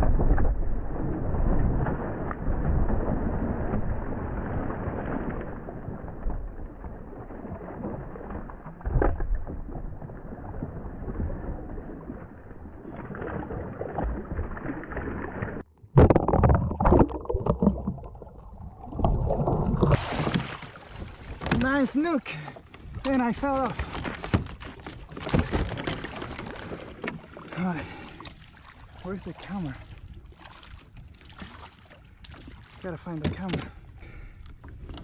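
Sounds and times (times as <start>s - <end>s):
loud splashes and knocks: 0.0s - 21.8s, 23.0s - 27.6s, 30.4s - 33.8s
water sloshing around kayak: 0.0s - 35.0s.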